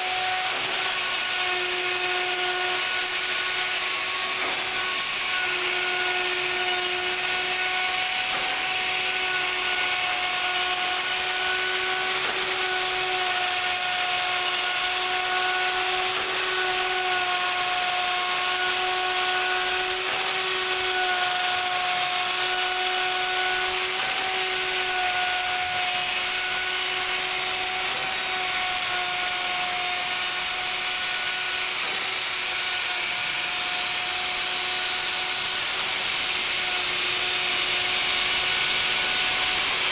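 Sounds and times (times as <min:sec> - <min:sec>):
wood router high whine: 0:00.0 - 0:39.9.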